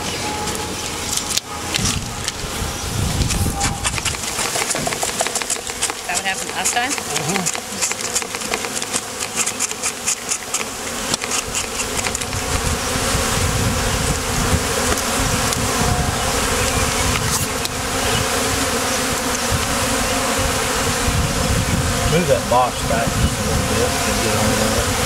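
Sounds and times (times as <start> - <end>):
bees buzzing loudly: 0.0 - 25.0.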